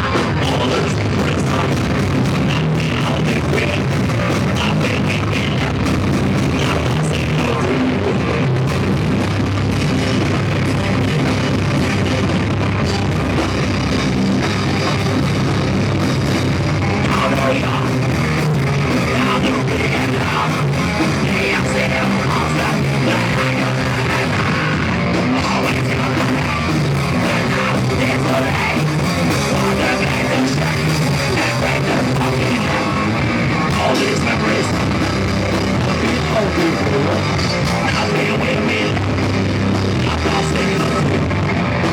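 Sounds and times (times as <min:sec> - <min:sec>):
drum kit: 0:00.0 - 0:41.9
electric guitars: 0:00.0 - 0:41.9.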